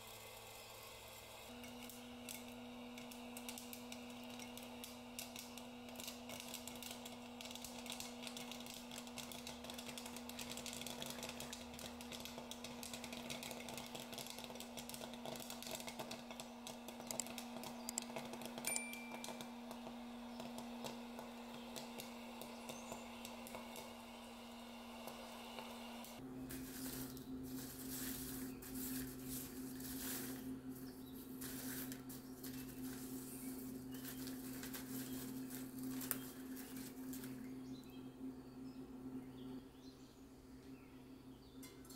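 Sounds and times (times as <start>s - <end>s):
popcorn popping: 0.0s - 37.8s
popcorn popper motor hum: 0.0s - 41.9s.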